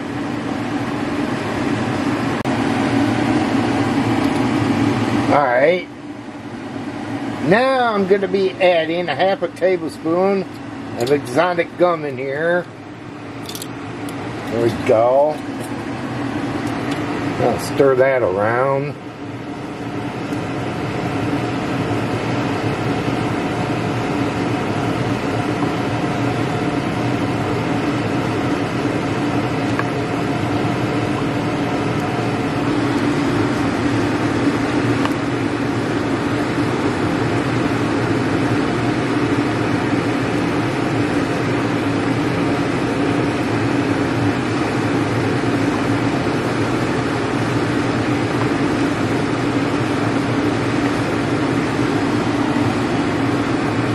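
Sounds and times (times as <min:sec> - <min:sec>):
fan humming: 0:00.0 - 0:53.9.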